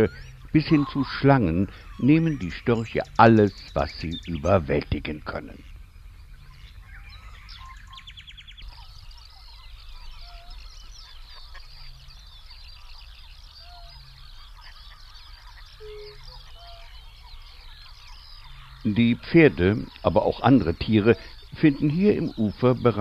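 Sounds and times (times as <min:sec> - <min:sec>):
chorus of bird calls: 0:00.0 - 0:23.0
whistled bird notes: 0:00.0 - 0:23.0.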